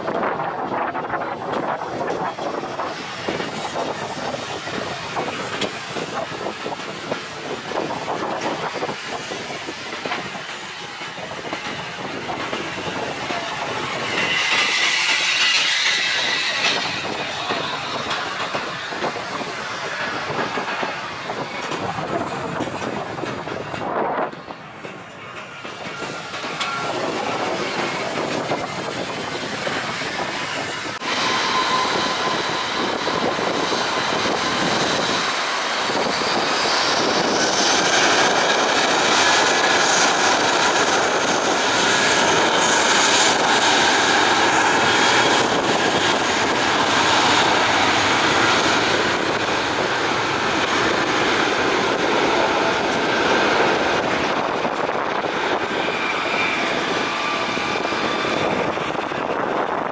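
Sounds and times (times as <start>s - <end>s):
jet engines roaring: 0.0s - 23.7s, 24.5s - 59.9s
high jet whine: 0.0s - 59.9s.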